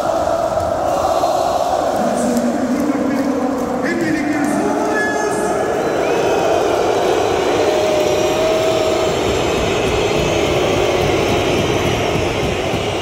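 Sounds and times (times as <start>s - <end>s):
crowd roaring: 0.0s - 13.0s.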